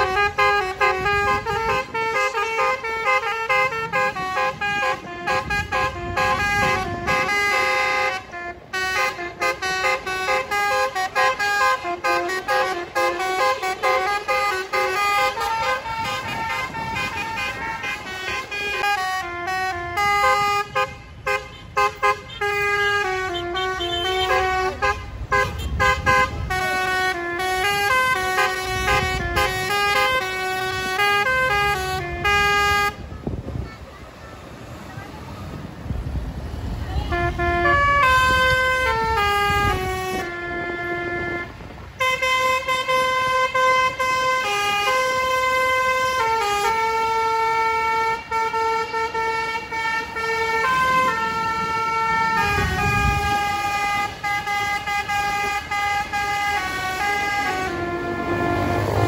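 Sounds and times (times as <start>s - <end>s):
musical air horns melody: 0.0s - 33.1s, 36.9s - 59.0s.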